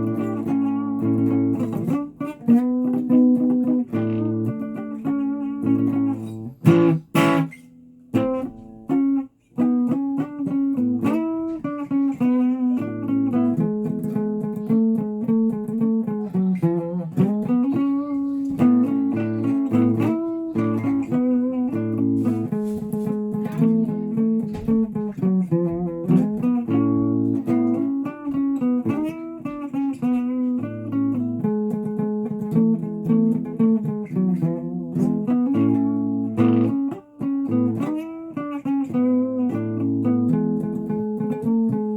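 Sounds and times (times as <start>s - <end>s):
guitar playing: 0.0s - 41.9s
sharp guitar strikes: 0.0s - 41.9s.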